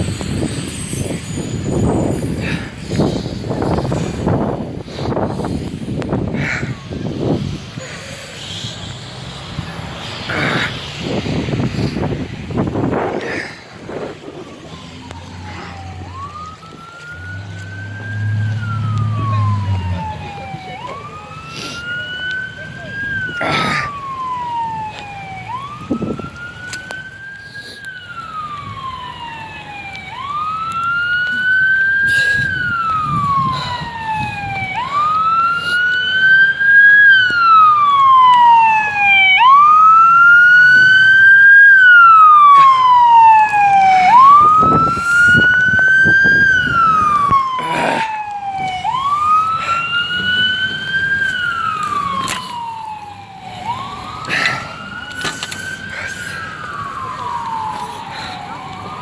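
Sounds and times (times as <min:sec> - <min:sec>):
emergency vehicle siren wailing: 0:00.0 - 0:59.0.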